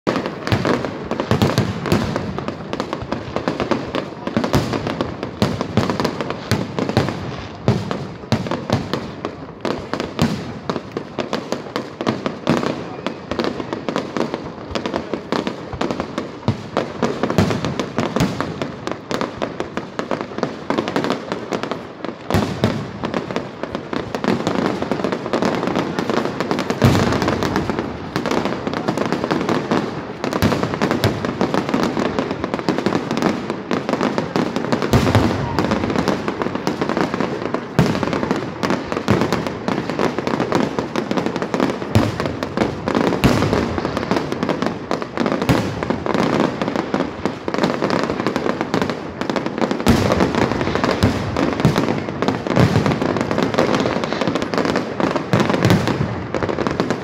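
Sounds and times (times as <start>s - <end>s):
fireworks bursts and crackling: 0.0s - 57.0s
heavy firework booms: 0.1s - 57.0s.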